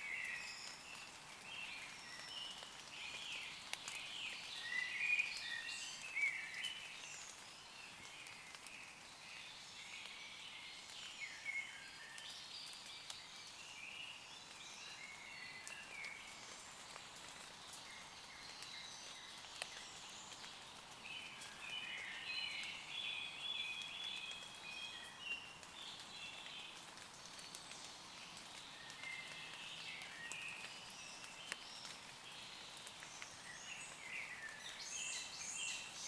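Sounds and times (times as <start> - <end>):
raindrops ticking on leaves: 0.0 - 36.0
woodland birds singing: 0.0 - 36.0.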